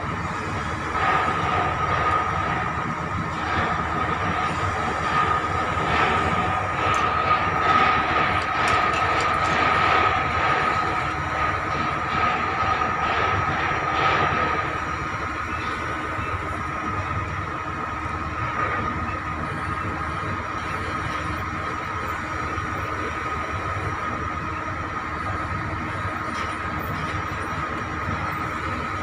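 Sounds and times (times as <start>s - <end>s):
heavy machinery engines running: 0.0s - 29.0s
steady high whine: 0.0s - 29.0s.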